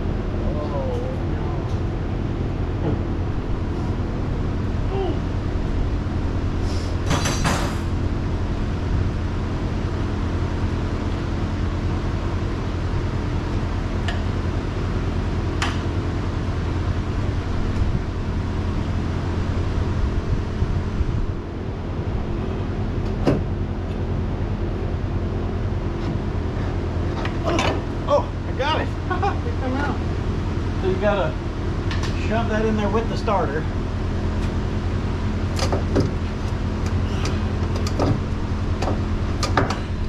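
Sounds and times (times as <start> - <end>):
low hum of machinery: 0.0 - 40.0.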